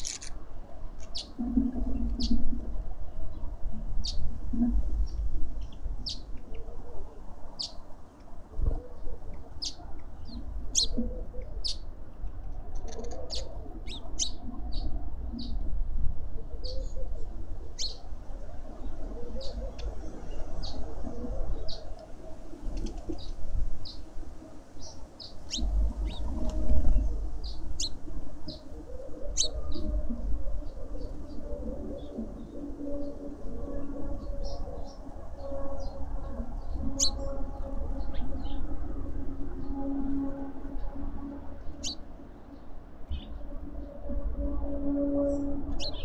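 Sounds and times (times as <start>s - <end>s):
songbirds chirping: 0.0s - 15.7s, 17.7s - 46.0s
wind rumble on microphone: 0.0s - 46.0s.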